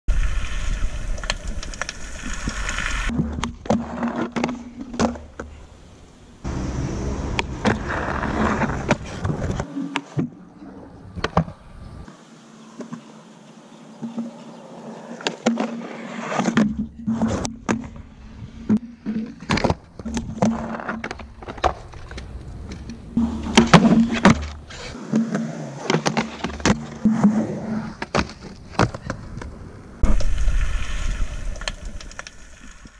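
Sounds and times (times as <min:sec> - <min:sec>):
skateboard wheels rolling on concrete: 0:00.1 - 0:12.2, 0:14.0 - 0:32.9.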